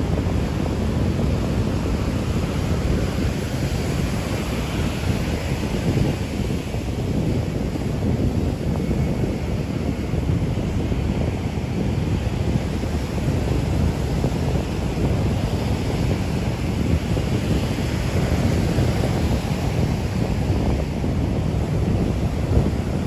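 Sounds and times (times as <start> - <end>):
heavy surf breaking: 0.0 - 23.0
wind buffeting microphone: 0.0 - 23.0.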